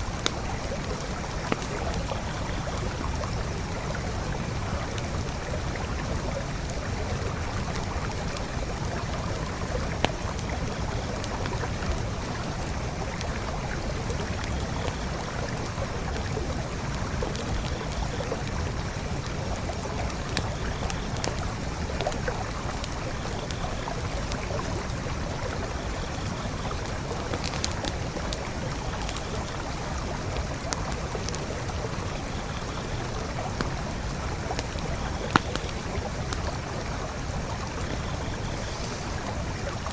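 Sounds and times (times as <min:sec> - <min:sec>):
campfire pops and crackles: 0:00.0 - 0:39.9
creek flowing: 0:00.0 - 0:39.9.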